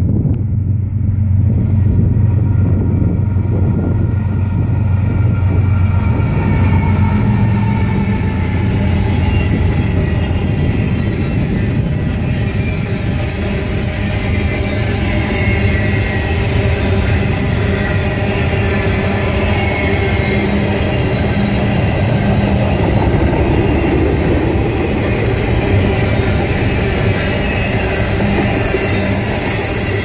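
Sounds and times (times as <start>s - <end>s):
diesel locomotives droning: 0.0s - 30.0s
steel wheels rumbling on rails: 0.0s - 30.0s.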